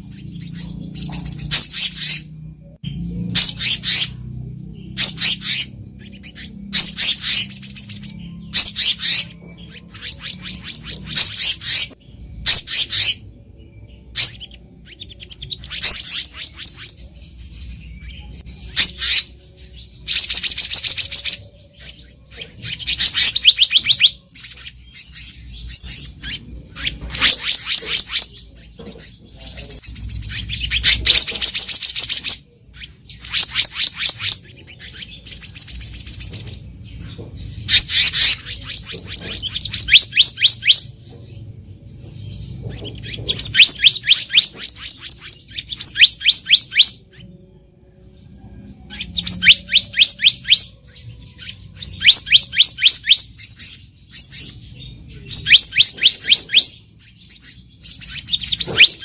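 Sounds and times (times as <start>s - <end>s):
bird singing high sharp notes: 0.0s - 59.0s.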